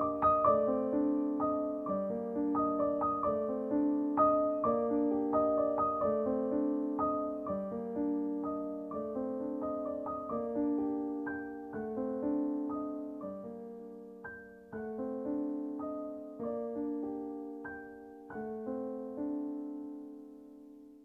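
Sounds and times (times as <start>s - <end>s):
slow gentle keyboard music: 0.0s - 21.0s.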